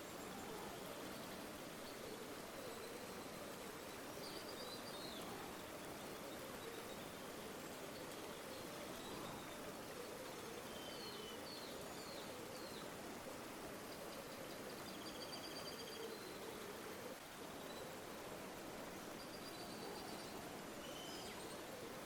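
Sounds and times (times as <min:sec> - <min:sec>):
faint bird chirps and trills: 0:00.0 - 0:22.0
river flowing: 0:00.0 - 0:22.0.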